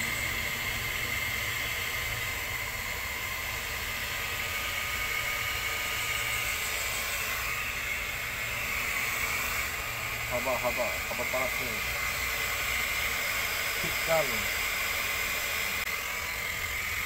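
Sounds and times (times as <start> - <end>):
hot-air welding gun blower hissing: 0.0 - 17.0.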